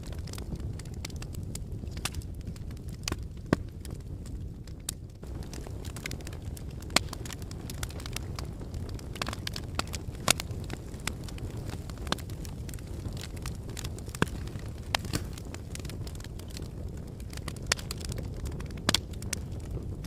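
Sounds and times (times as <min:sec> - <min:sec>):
fire pops and snaps: 0:00.0 - 0:20.0
low rumble of flames: 0:00.0 - 0:20.0.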